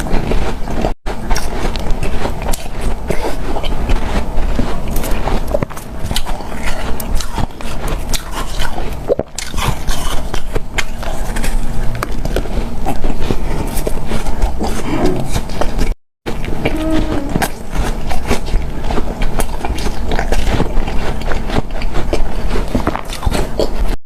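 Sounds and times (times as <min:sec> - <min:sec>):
chewing crunchy ice: 0:00.0 - 0:24.0.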